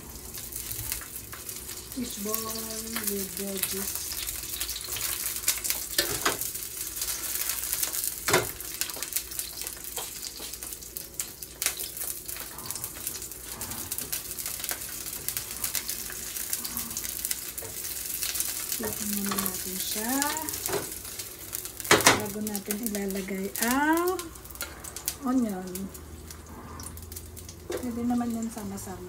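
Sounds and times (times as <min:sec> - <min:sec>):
fish sizzling in a frying pan: 0:00.0 - 0:29.0.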